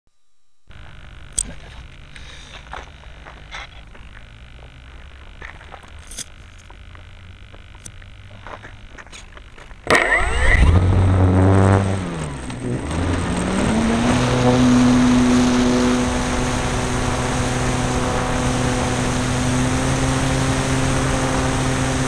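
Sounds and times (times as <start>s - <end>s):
model plane motor whining: 3.7s - 22.0s.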